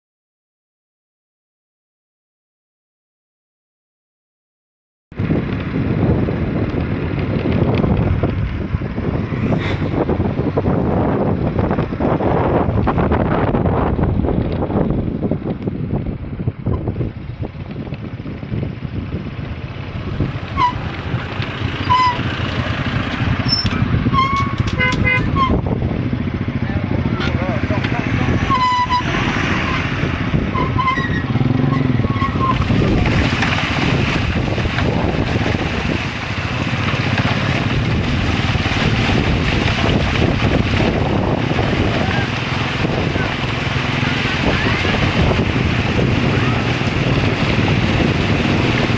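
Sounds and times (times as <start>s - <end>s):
road traffic rumble: 5.1s - 48.9s
wind buffeting microphone: 5.2s - 48.9s.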